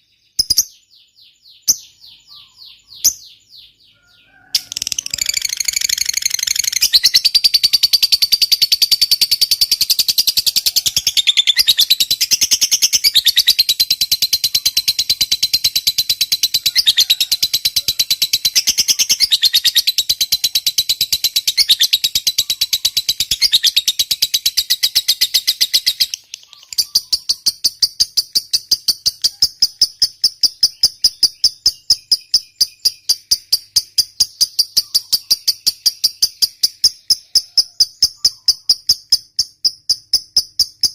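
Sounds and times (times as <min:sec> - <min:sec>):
lovebird chattering trill: 0:00.3 - 0:40.9
slow pulsed high chirping: 0:04.9 - 0:16.7, 0:17.6 - 0:40.9.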